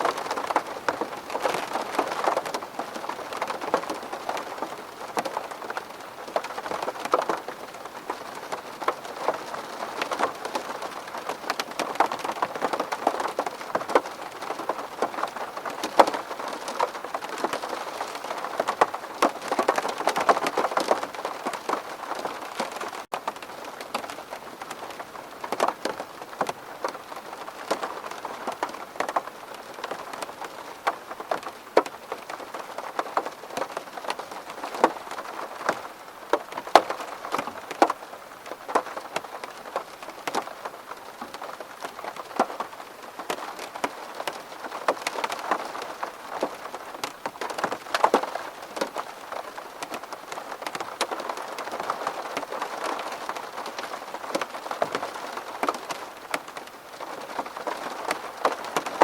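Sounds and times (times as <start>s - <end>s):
rain hissing on a window: 0.0s - 59.0s.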